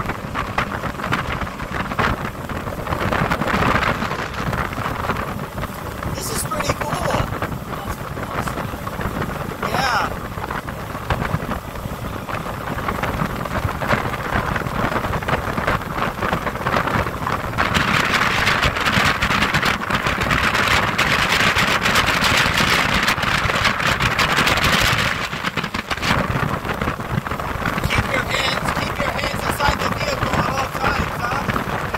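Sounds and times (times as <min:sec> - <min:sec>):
boat engine rumble: 0:00.0 - 0:31.9
hull on water: 0:00.0 - 0:31.9
wind buffeting microphone: 0:00.0 - 0:31.9.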